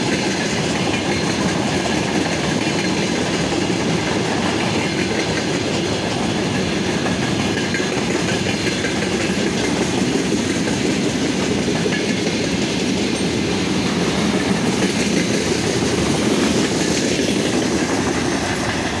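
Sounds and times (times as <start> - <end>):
freight train wagons rolling: 0.0 - 19.0.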